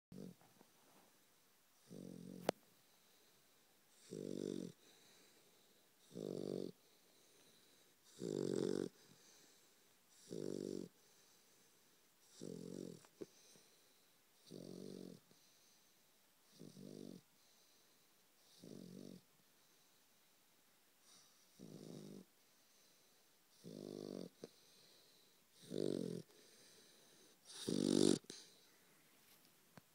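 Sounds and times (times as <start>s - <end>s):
puppy snoring: 0.1s - 0.5s, 1.8s - 20.0s, 21.0s - 28.7s.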